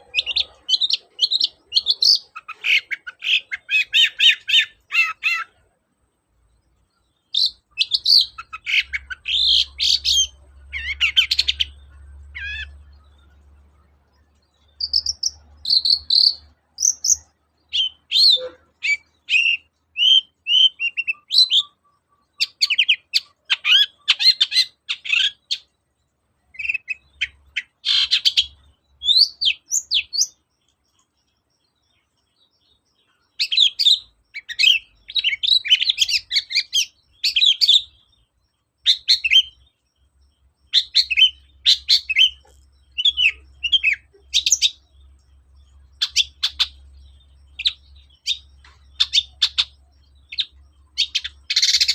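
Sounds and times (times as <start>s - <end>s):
bird chattering and whistling: 0.0s - 5.8s, 7.2s - 14.0s, 14.6s - 25.7s, 26.5s - 30.5s, 32.8s - 38.1s, 38.8s - 39.6s, 40.6s - 51.9s.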